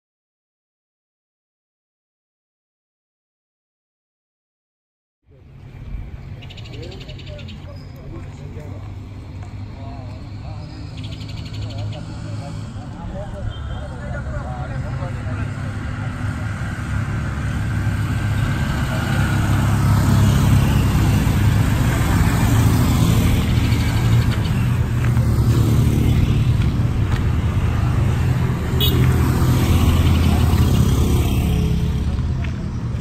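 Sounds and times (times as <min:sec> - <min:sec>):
motorcycles passing: 0:05.3 - 0:33.0.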